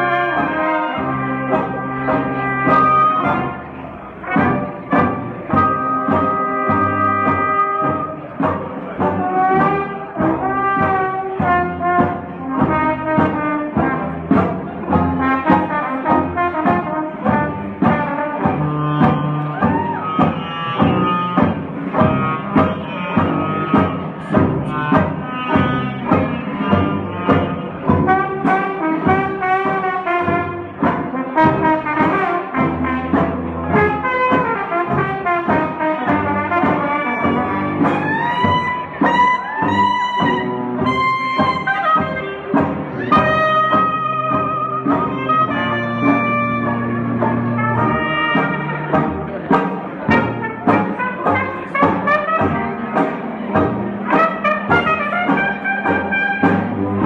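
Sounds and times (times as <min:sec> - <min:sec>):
jazz band playing: 0:00.0 - 0:57.0.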